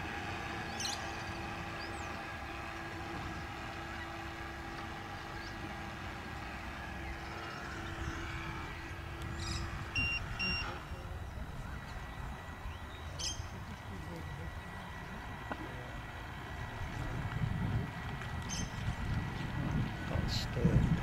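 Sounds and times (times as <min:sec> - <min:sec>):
model boat motor humming: 0:00.0 - 0:21.0.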